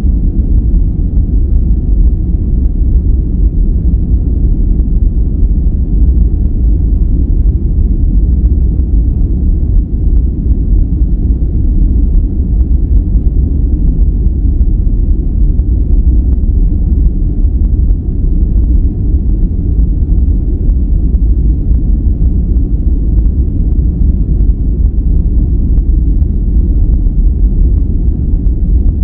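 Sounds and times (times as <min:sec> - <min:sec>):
deep white noise hiss: 0:00.0 - 0:29.0.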